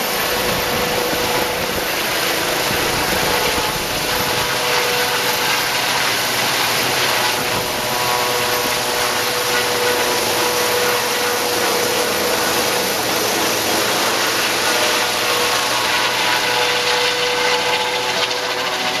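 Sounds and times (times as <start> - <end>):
faint turbine whine: 0.0 - 19.0
helicopter flying overhead: 0.0 - 19.0.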